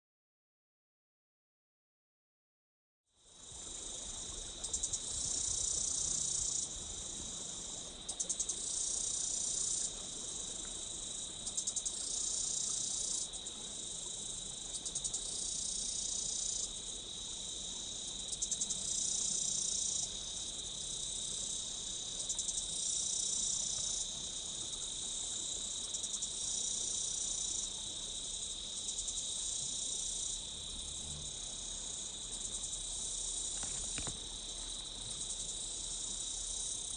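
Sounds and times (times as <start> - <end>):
insect chorus with quick ticks: 3.2 - 36.9
insects trilling: 3.2 - 36.9.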